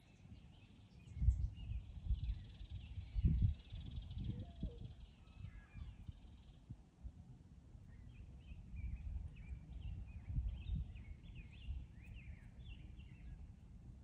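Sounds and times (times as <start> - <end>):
small birds chirping: 0.0 - 6.7, 7.8 - 13.7.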